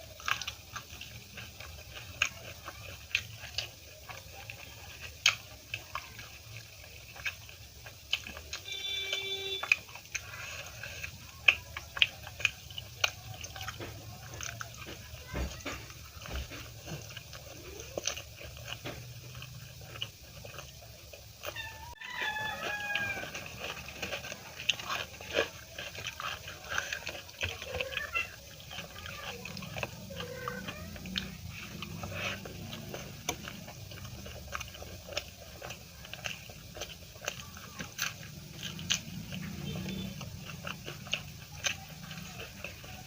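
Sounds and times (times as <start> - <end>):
wet chewing mouth sounds: 0.0 - 43.0.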